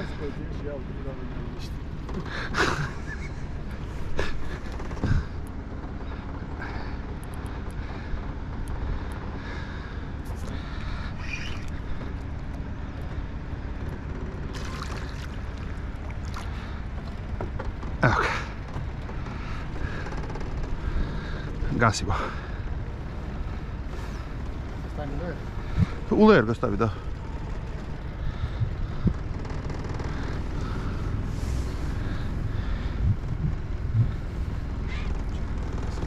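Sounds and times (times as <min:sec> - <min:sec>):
boat motor running: 0:00.0 - 0:36.0.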